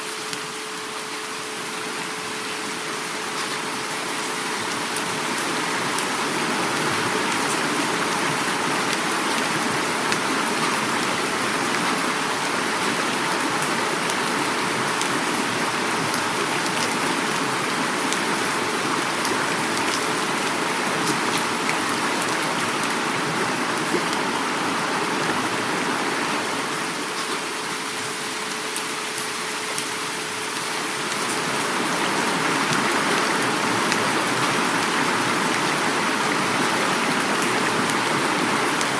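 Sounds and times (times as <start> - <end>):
flowing river water: 0.0 - 38.9
heavy rain: 0.0 - 38.9.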